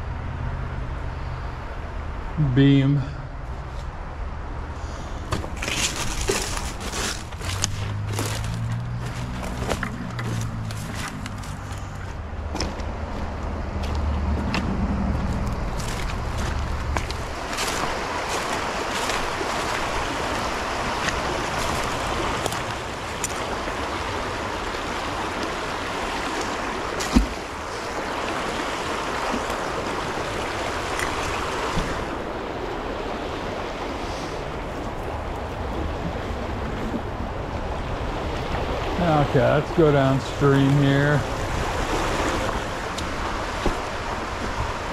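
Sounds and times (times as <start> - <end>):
creek water rushing: 1.7 - 44.9.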